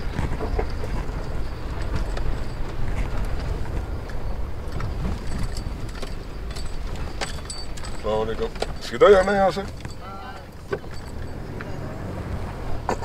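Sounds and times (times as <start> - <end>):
car engine and tyres rumbling: 0.0 - 13.0
small rattles and knocks: 0.0 - 13.0.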